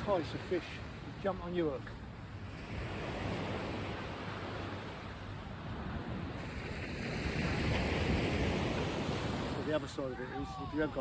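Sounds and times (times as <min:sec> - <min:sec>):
wind rumbling on microphone: 0:02.0 - 0:11.0.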